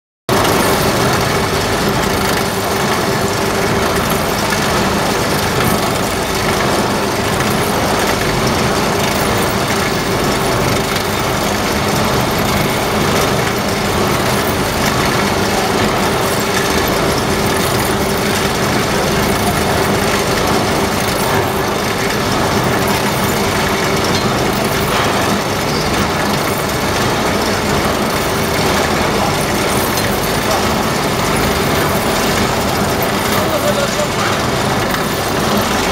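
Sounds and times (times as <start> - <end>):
furnace machinery humming: 0.3 - 35.9.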